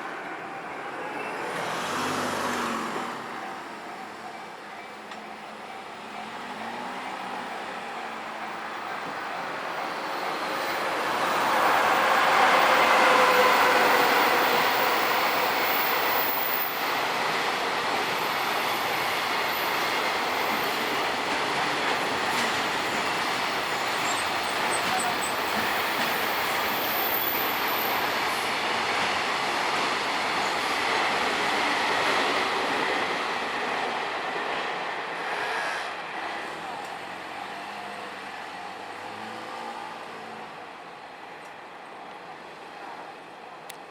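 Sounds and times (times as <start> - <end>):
train passing: 0.0 - 43.9.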